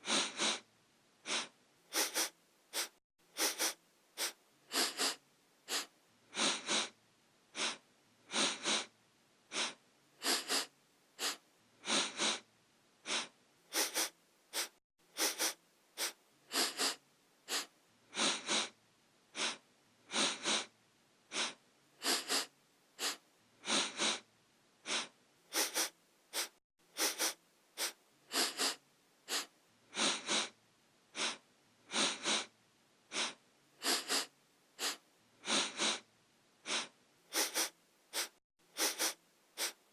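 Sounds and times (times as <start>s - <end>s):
person sniffing: 0.0s - 8.9s, 9.5s - 20.7s, 21.3s - 32.5s, 33.1s - 39.9s.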